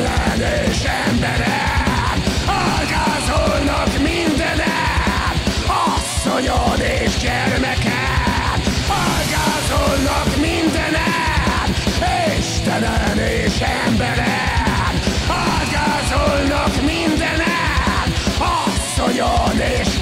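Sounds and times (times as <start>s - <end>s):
distorted guitars: 0.0s - 20.0s
fast drum beat: 0.0s - 20.0s.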